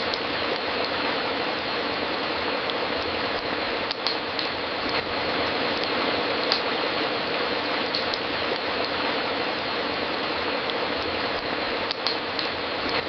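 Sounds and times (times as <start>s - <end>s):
fireplace crackling: 0.0s - 13.0s.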